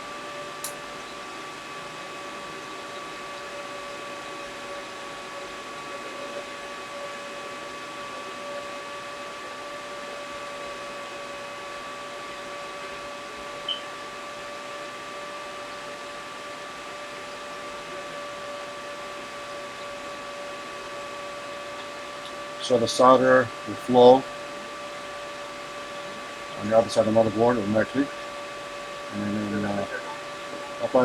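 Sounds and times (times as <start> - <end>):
electric fan whining: 0.0 - 31.0.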